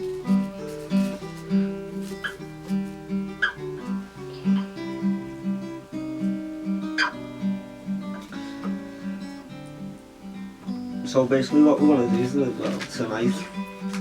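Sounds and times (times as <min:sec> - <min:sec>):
acoustic guitar picking and strumming: 0:00.0 - 0:14.0.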